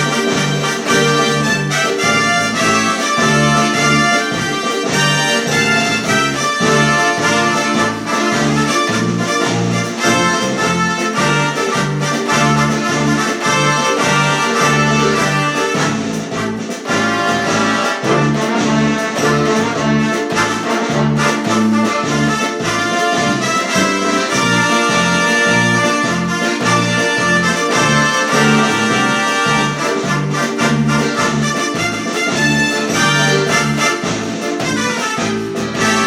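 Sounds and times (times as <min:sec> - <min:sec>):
accordion playing march tune: 0:00.0 - 0:36.0.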